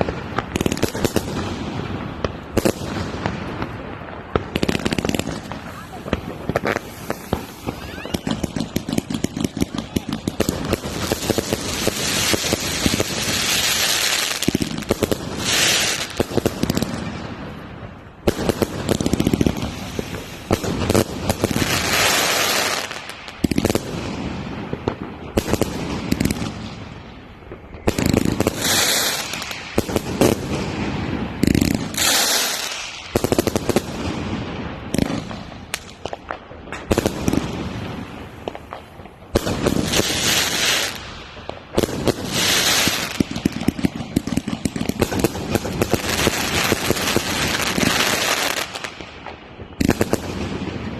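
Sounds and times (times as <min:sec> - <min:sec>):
fireworks bangs and crackling: 0:00.0 - 0:50.9
fireworks hissing: 0:00.0 - 0:50.9.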